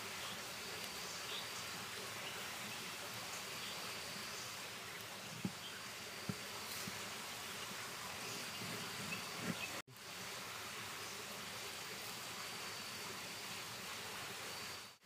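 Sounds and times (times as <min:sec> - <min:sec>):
faint insect drone: 0:00.0 - 0:15.0
outdoor background hiss: 0:00.0 - 0:15.0.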